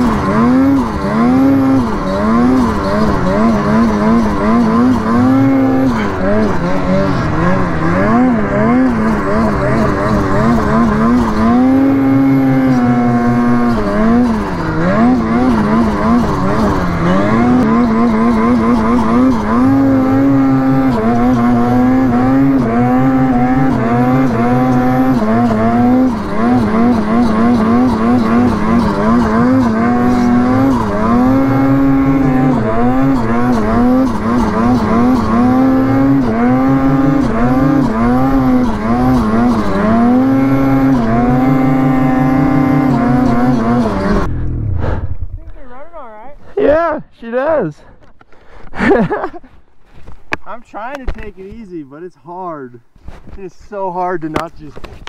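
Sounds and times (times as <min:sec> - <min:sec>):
snowmobile engine revving: 0:00.0 - 0:47.6.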